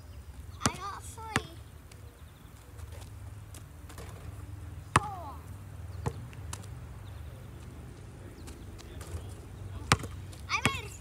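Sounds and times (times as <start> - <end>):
basketball bouncing on asphalt: 0.6 - 6.8, 8.4 - 11.0.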